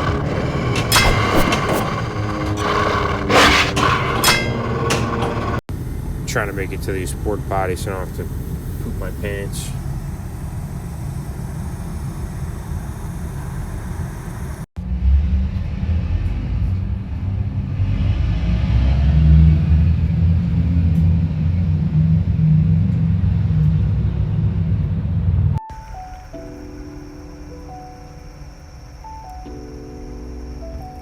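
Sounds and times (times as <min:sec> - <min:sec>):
van driving rumble: 0:00.0 - 0:25.6.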